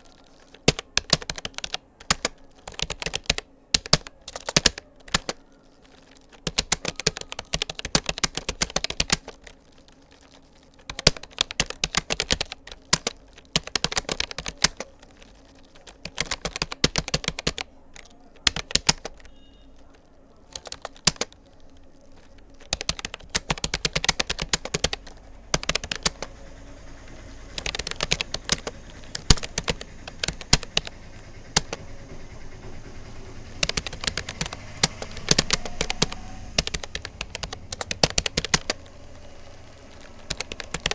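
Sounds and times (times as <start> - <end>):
keyboard key clicks: 0.0 - 40.9.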